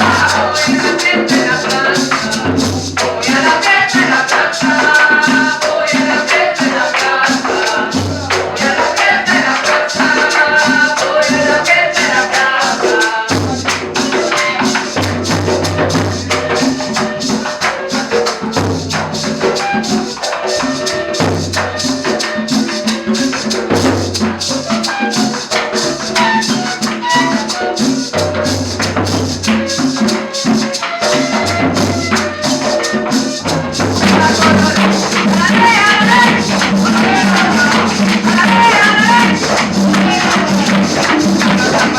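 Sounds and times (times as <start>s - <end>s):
live band playing: 0.0s - 41.9s
rattling percussion: 0.0s - 41.9s.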